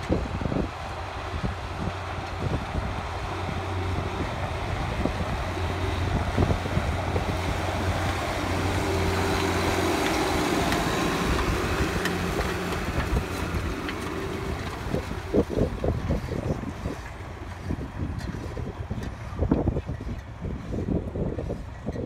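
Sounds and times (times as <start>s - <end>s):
tractor diesel engine running: 0.0s - 22.0s
wind buffeting microphone: 0.0s - 22.0s.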